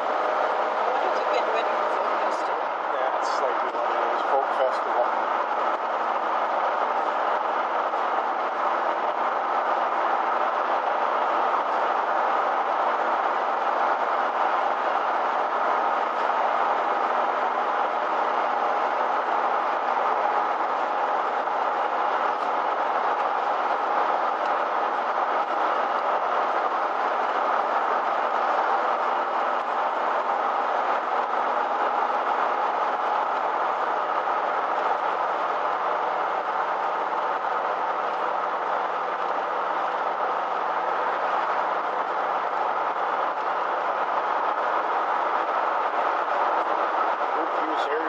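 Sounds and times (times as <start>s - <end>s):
engine and road noise: 0.0s - 48.0s.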